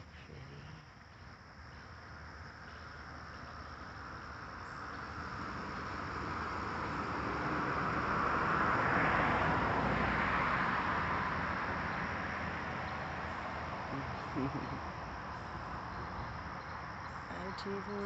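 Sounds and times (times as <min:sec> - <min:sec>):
car passing by: 0:02.6 - 0:17.5.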